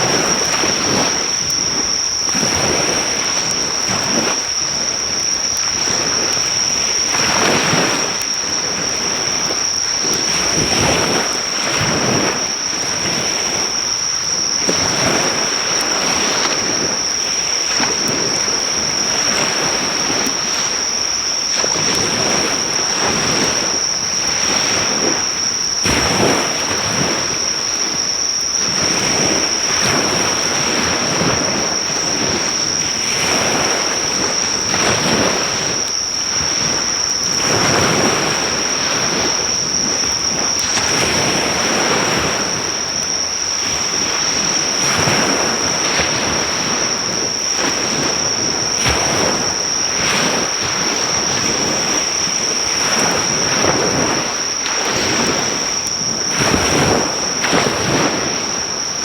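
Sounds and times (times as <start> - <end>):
high-pitched insect trill: 0.0 - 59.0
waves breaking on a beach: 0.0 - 59.0.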